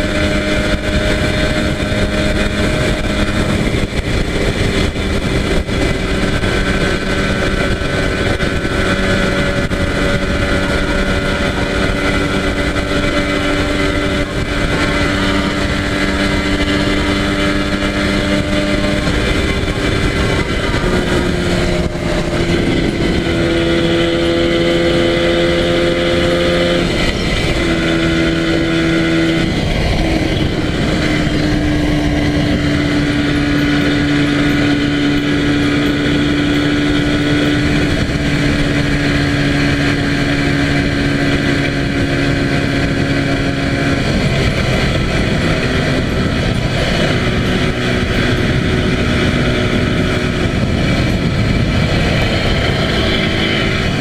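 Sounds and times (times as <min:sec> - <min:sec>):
rushing road noise: 0:00.0 - 0:54.0
two-stroke motorcycle engine cruising: 0:00.0 - 0:54.0.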